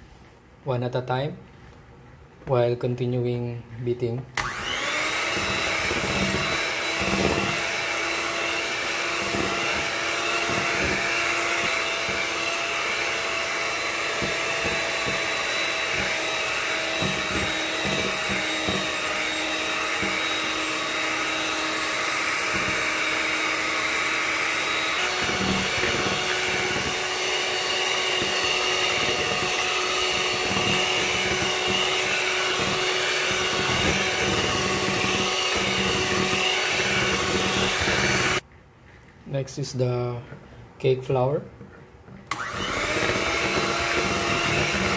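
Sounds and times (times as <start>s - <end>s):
electric hand mixer running: 4.4s - 38.4s, 42.3s - 44.9s.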